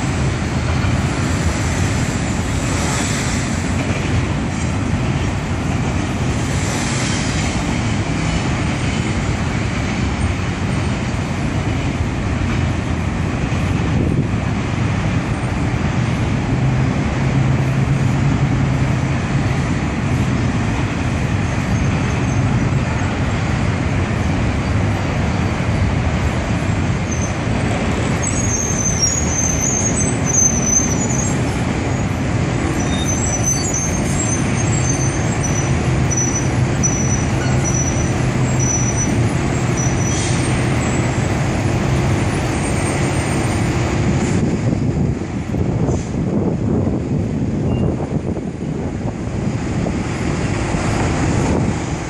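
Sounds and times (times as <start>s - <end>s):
freight train rumbling over bridge: 0.0s - 52.0s
road traffic: 0.0s - 52.0s.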